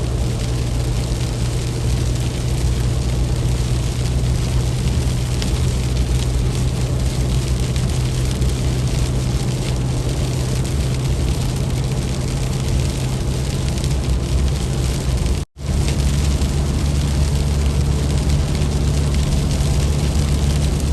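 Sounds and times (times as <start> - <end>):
vehicle engine and road noise: 0.0 - 20.9.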